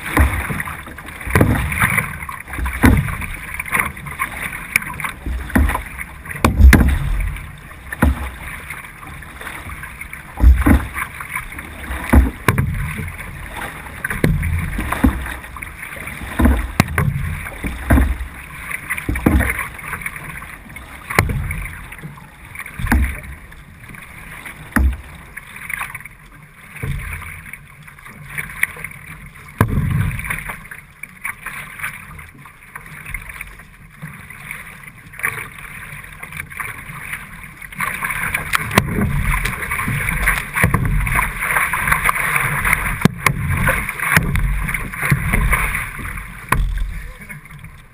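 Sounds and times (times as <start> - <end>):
paddle thump and splash: 0.0 - 47.9
rushing water: 0.0 - 47.9.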